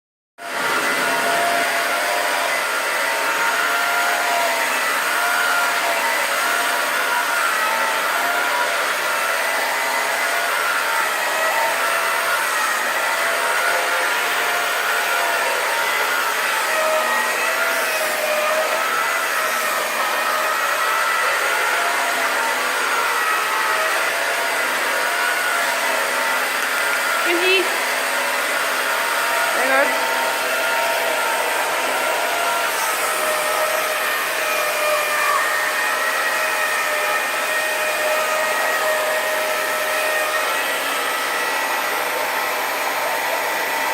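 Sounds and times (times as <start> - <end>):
vacuum cleaner running: 0.4 - 43.9.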